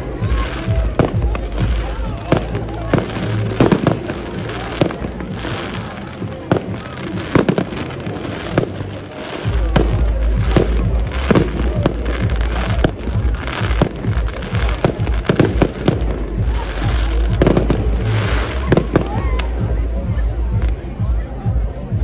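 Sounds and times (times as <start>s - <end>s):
fireworks bangs: 0.0s - 19.8s
fireworks crackle: 0.0s - 22.0s
heavy low rumble: 0.0s - 22.0s.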